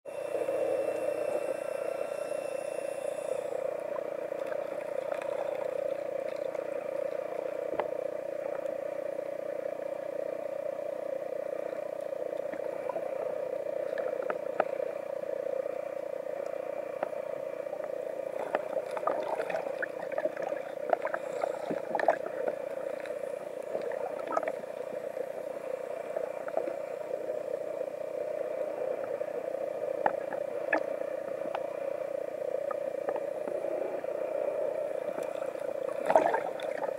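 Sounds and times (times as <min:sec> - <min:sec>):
muffled underwater drone: 0:00.1 - 0:36.9.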